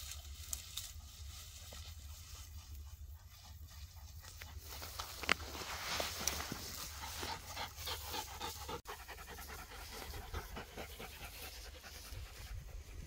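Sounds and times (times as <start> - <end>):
dogs panting: 1.7 - 13.0.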